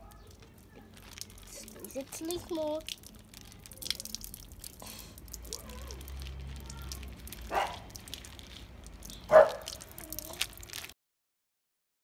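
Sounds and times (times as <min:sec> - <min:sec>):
water dripping into trough: 0:00.0 - 0:10.9.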